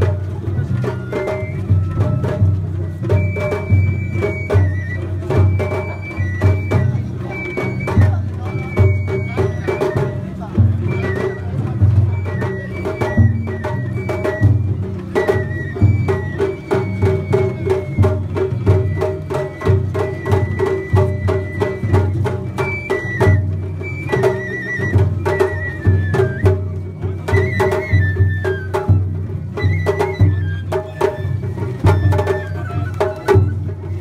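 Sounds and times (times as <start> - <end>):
high bamboo flute melody: 0.0 - 34.0
taiko drums beating: 0.0 - 34.0.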